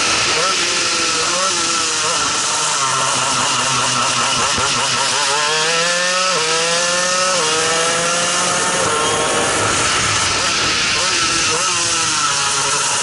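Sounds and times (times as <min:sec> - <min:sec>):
kart engine revving with upshifts: 0:00.0 - 0:13.0.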